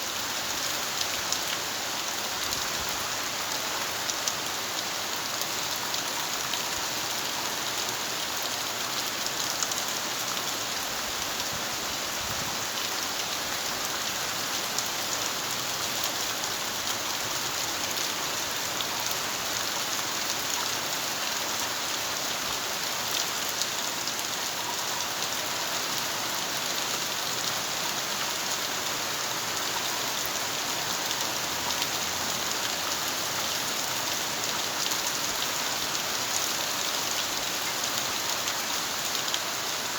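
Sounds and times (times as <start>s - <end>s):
rain pattering on surfaces: 0.1s - 39.9s.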